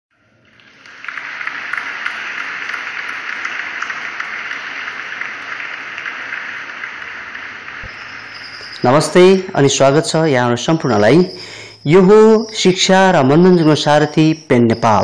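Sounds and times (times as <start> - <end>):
faint crackling: 0.3 - 13.9
steady hiss: 0.4 - 15.0.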